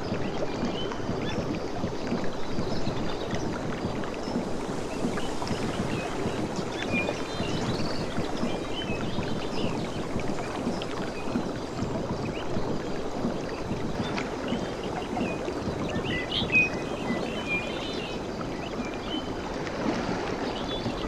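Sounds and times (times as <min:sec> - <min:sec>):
small waves washing on beach: 0:00.0 - 0:21.0.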